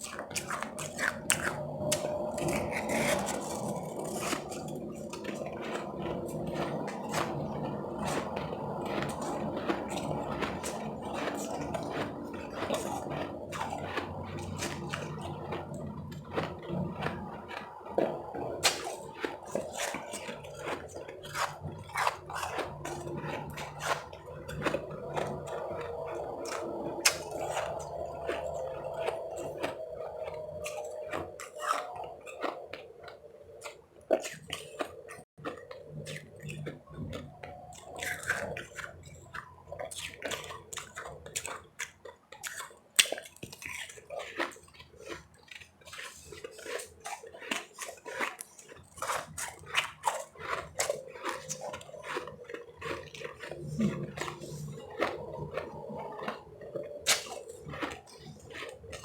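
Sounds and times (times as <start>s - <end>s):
chewing crunchy ice chips: 0.0s - 59.0s.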